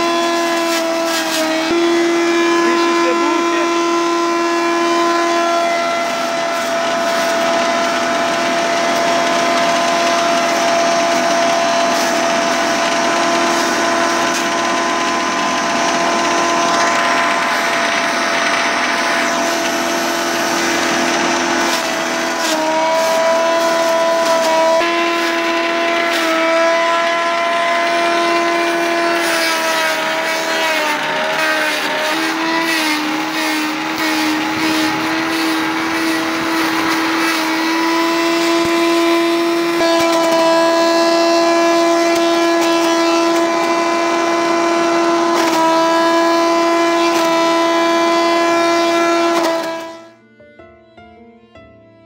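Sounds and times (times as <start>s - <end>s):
shredder high whine: 0.0s - 50.2s.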